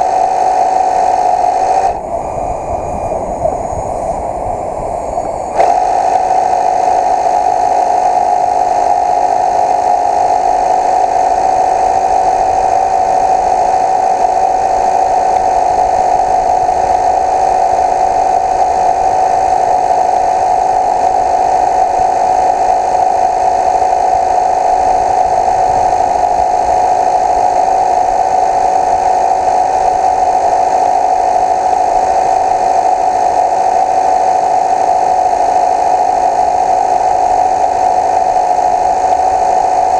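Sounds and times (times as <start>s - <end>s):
electric motor hum: 0.0s - 39.9s.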